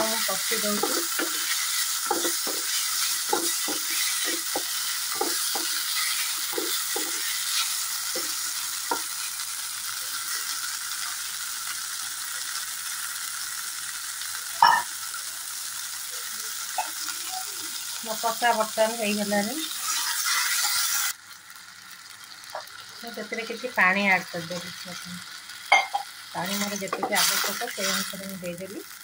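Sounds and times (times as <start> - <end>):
food sizzling in oil: 0.0 - 29.0.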